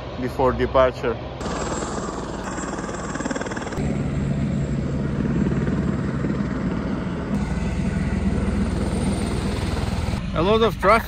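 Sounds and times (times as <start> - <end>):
aircraft engine throbbing: 0.0 - 11.0.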